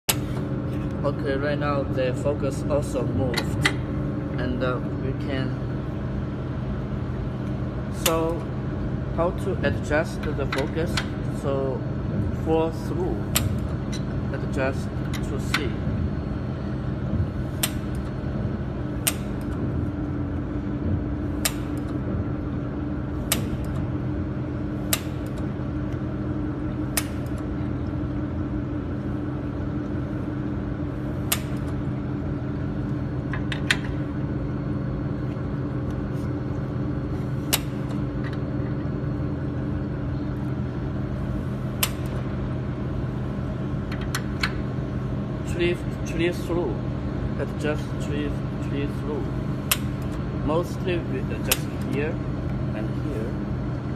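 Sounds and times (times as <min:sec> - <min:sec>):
welding machine humming: 0:00.0 - 0:53.9.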